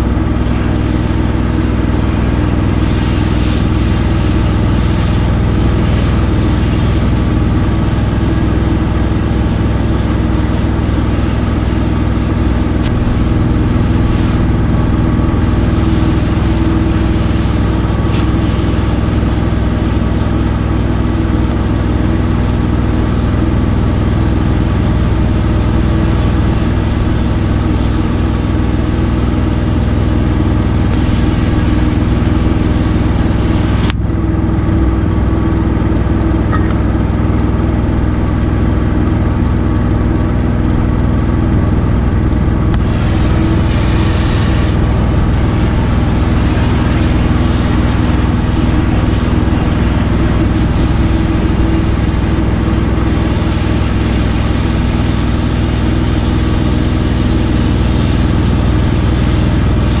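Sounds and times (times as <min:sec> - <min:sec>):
engine running steadily: 0:00.0 - 1:00.0
welding arc crackling and hissing: 0:00.0 - 1:00.0.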